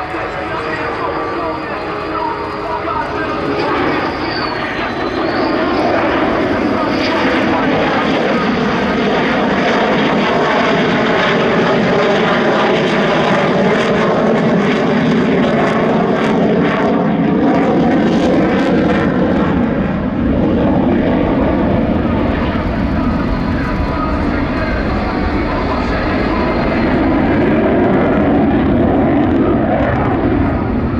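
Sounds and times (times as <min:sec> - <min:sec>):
jet engine roaring: 0:00.0 - 0:30.9.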